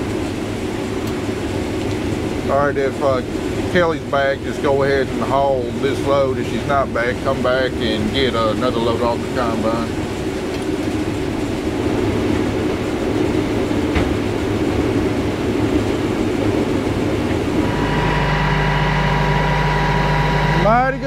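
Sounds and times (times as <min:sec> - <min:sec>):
combine harvester rumbling: 0:00.0 - 0:21.0
steady engine hum: 0:00.0 - 0:21.0.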